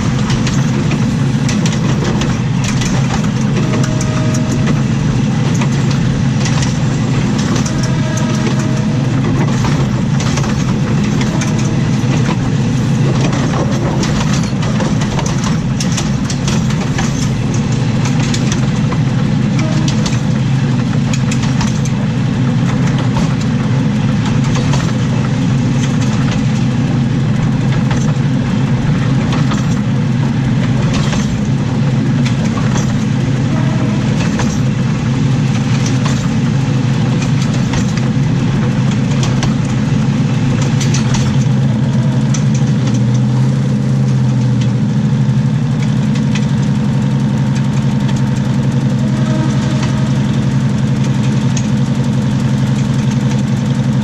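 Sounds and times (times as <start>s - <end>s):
track clicks and knocks: 0.0s - 44.8s, 45.7s - 54.0s
railcar wheels rumbling on rails: 0.0s - 54.0s.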